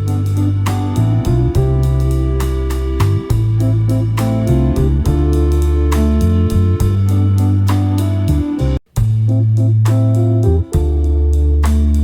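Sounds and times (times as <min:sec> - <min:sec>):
held bass line: 0:00.0 - 0:12.0
steady beat: 0:00.0 - 0:12.0.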